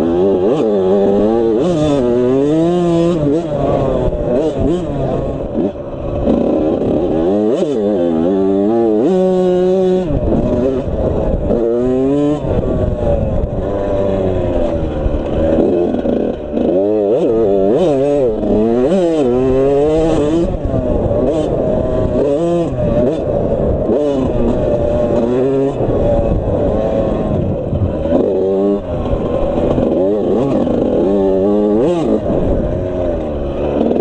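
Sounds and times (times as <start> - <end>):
two-stroke motorcycle engine revving: 0.0 - 34.0.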